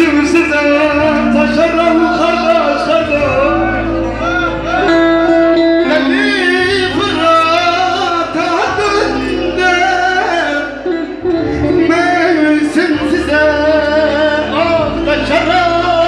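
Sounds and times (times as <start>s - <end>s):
man singing into a microphone: 0.0s - 4.1s, 4.8s - 16.0s
amplified instrumental backing: 0.0s - 16.0s.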